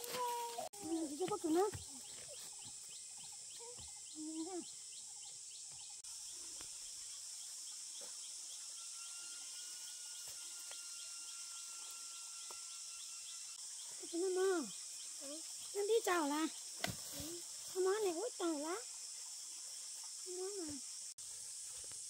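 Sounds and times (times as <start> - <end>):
high insect hiss: 0.0 - 22.0
insects chirping: 0.0 - 22.0.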